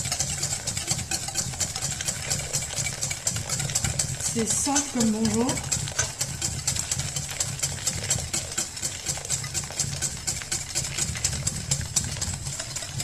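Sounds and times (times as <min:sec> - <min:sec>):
whisk beating in metal bowl: 0:00.0 - 0:13.0.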